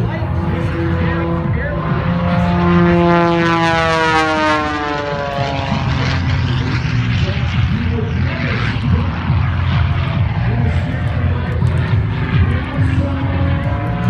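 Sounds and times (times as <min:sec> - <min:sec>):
propeller plane flying past: 0:00.0 - 0:14.0.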